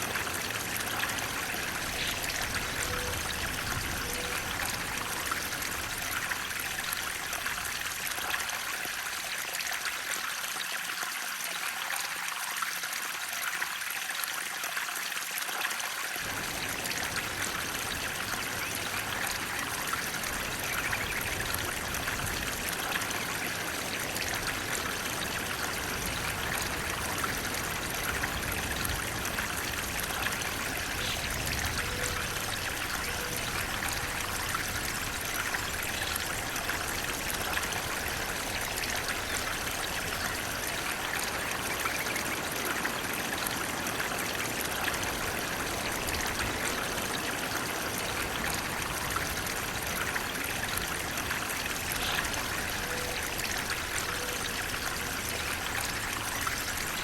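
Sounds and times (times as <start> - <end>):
stream running and trickling: 0.0 - 57.0.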